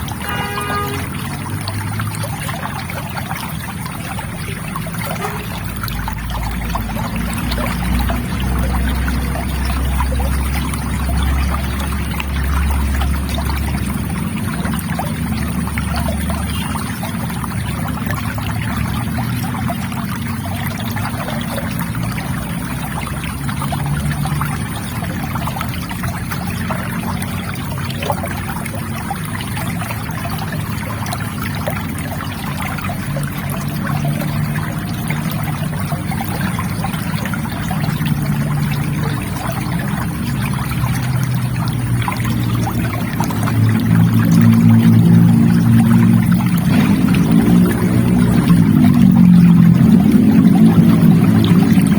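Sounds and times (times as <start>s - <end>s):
river water flowing: 0.0s - 51.9s.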